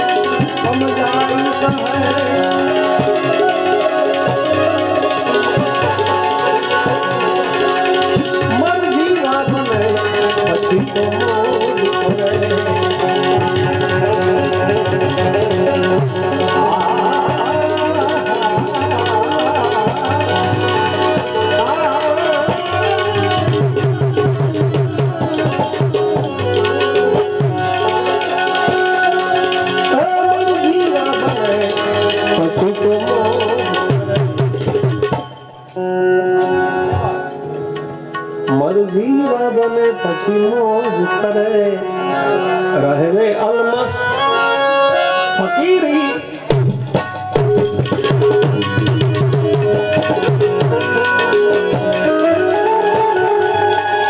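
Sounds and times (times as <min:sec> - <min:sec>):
wavering melody line: 0:00.0 - 0:46.3, 0:47.0 - 0:54.0
tabla drumming: 0:00.0 - 0:54.0.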